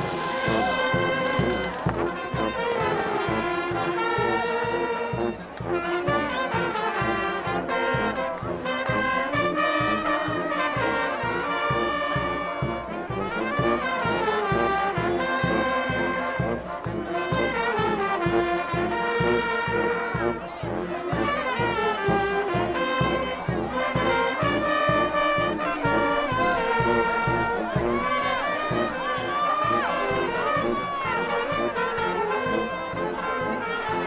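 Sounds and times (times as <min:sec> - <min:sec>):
brass band playing: 0:00.0 - 0:34.0.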